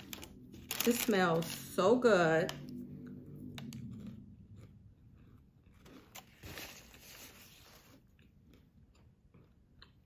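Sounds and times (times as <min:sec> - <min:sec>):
granola crunching and rustling: 0:00.0 - 0:01.6, 0:03.5 - 0:09.9.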